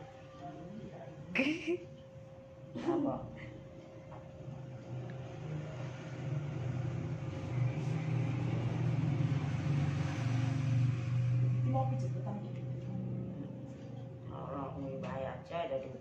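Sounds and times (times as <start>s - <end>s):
low motor hum: 0.0s - 15.9s
faint constant whine: 0.0s - 16.0s.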